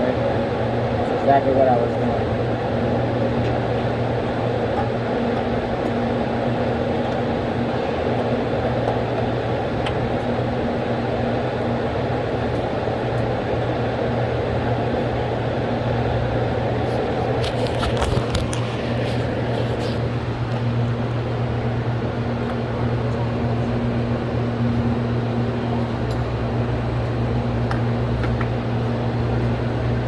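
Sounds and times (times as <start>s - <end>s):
mechanical hum with whooshing: 0.0s - 30.0s.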